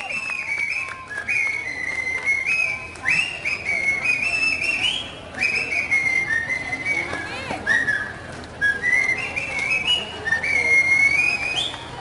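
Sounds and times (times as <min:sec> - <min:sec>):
man whistling into cupped hands: 0:00.0 - 0:12.0.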